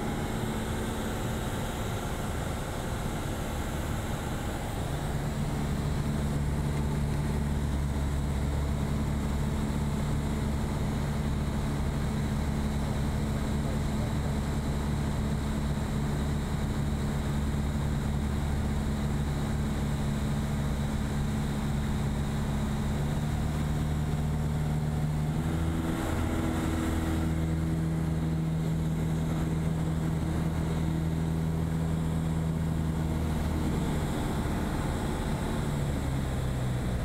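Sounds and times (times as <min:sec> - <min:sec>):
aircraft engine and propeller drone: 0:00.0 - 0:37.0.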